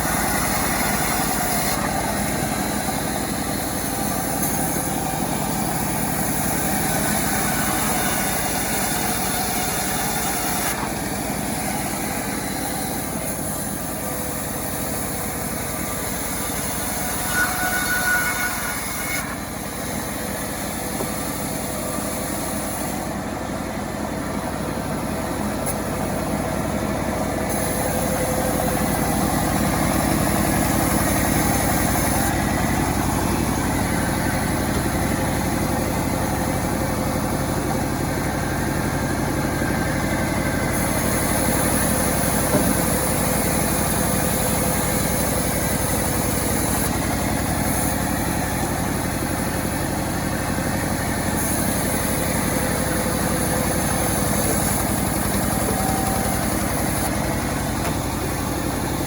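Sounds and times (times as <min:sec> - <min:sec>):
chainsaw engine running: 0:00.0 - 0:23.4, 0:24.4 - 0:59.0.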